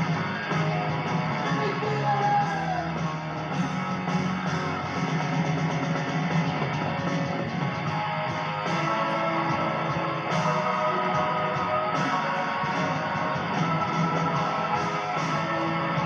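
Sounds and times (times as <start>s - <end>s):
bass: 0.0s - 16.0s
electric guitar playing: 0.0s - 16.0s.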